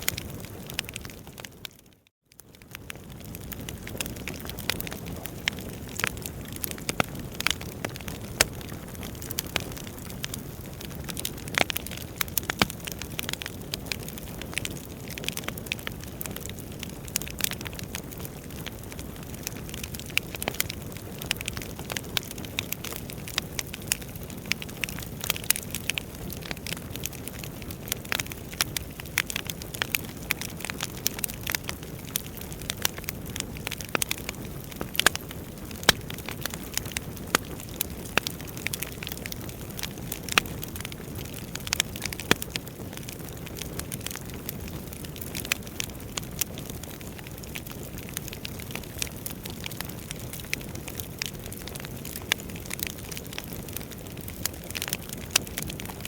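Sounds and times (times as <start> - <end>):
burning logs crackling and popping: 0.0 - 56.0.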